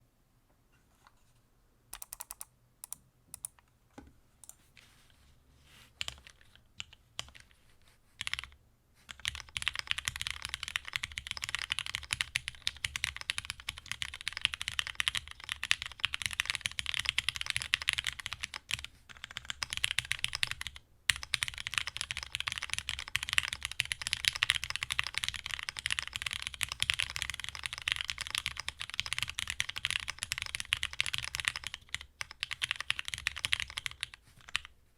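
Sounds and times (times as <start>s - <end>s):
typing on mechanical keyboard: 2.0s - 3.6s, 6.0s - 7.6s, 8.2s - 34.7s.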